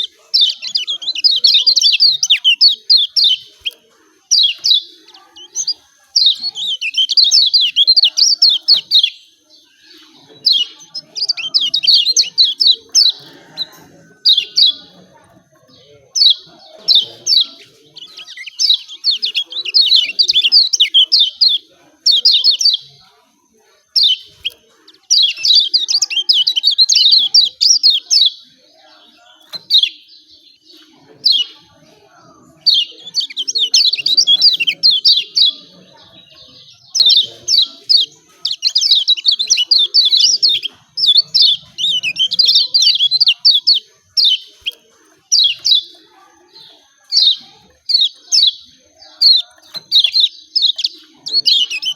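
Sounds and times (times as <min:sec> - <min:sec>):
bird chirping rapidly: 0:00.0 - 0:15.5, 0:16.2 - 0:23.0, 0:32.6 - 0:51.9.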